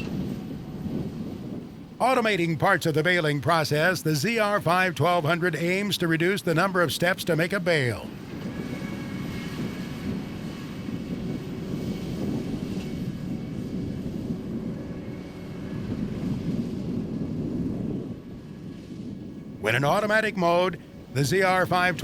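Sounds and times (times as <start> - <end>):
hay baler machinery drone: 0.0 - 22.0.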